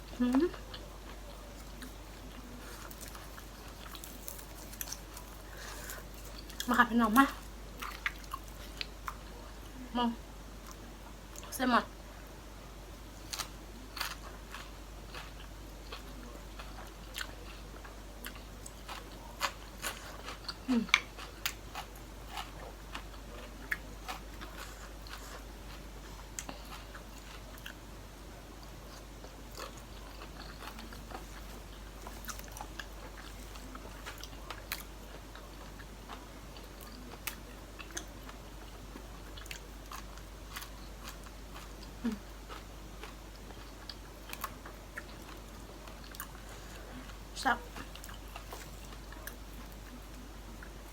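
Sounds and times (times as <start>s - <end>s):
person chewing food: 0.0s - 6.8s, 7.4s - 9.8s, 13.2s - 28.0s, 28.6s - 50.9s.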